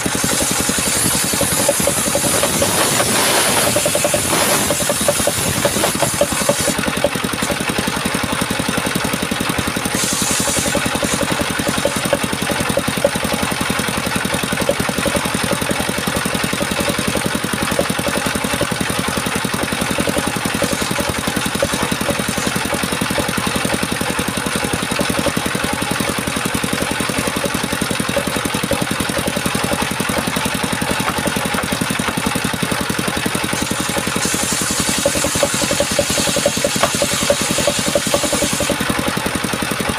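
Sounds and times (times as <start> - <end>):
power saw running: 0.0 - 39.9.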